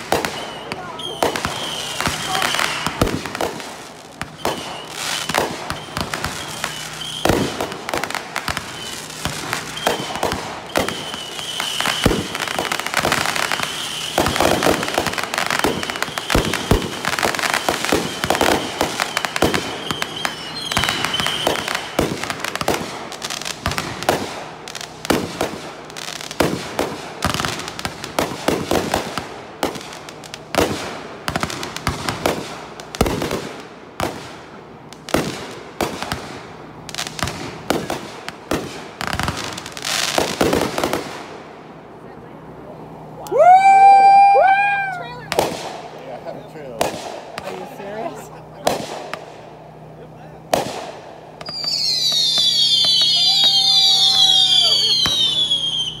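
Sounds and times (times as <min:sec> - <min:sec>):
fireworks bangs and bursts: 0:00.0 - 0:56.0.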